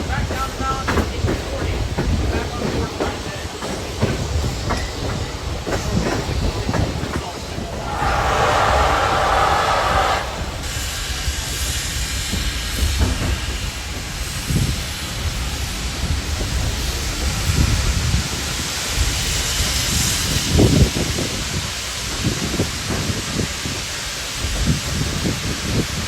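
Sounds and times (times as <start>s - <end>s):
steam hissing: 0.0s - 26.0s
steam train low rumble: 0.0s - 26.0s.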